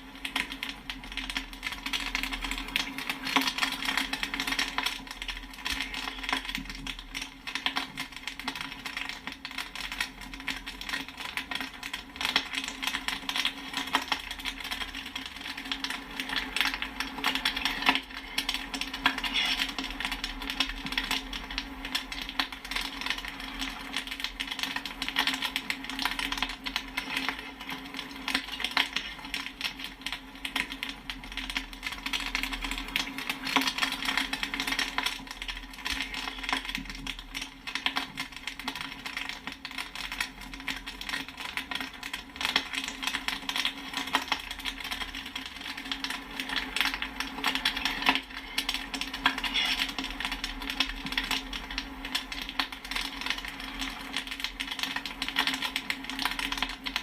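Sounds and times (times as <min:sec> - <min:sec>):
popcorn popping: 0:00.0 - 0:57.0.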